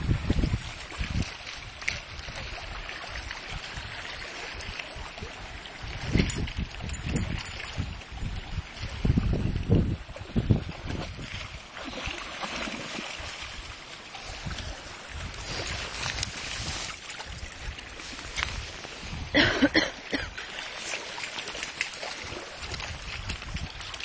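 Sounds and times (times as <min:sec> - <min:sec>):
water lapping and splashing: 0:00.0 - 0:24.0.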